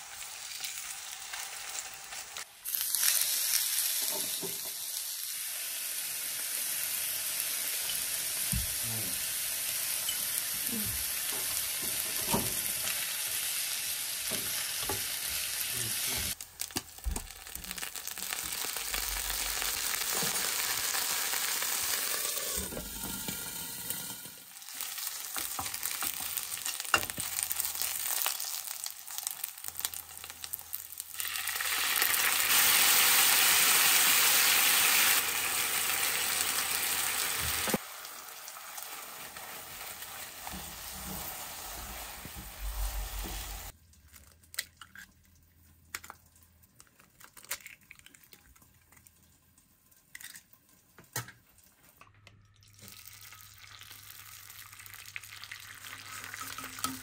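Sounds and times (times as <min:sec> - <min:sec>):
food sizzling in a frying pan: 0:00.0 - 0:43.8, 0:52.6 - 0:57.0.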